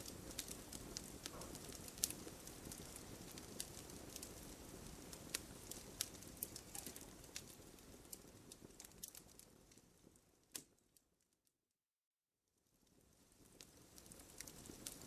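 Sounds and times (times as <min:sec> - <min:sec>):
wood fire crackling: 0:00.0 - 0:11.5, 0:12.6 - 0:15.0.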